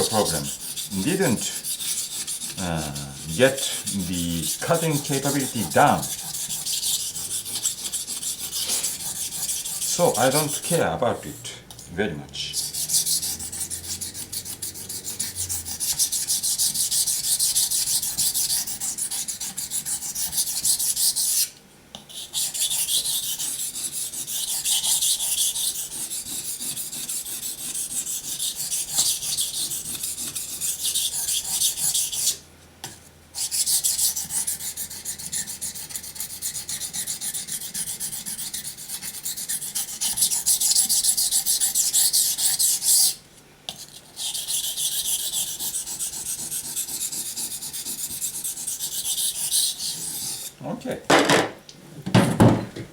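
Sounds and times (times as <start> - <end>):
knife rasping on a whetstone: 0.0 - 50.6.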